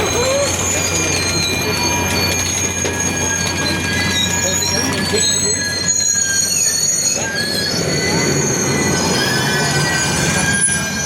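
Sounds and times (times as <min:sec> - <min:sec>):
low train rumble: 0:00.0 - 0:11.0
train wheels squealing: 0:00.0 - 0:11.0.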